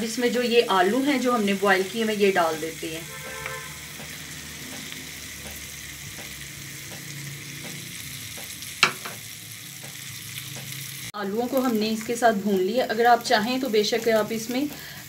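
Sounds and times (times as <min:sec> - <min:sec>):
oil sizzling in a saucepan: 0:00.0 - 0:15.0.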